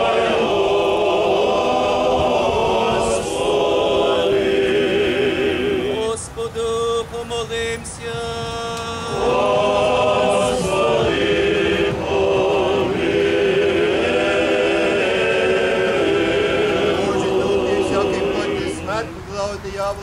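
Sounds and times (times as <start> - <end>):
choir chanting: 0.0 - 6.3, 8.8 - 19.6.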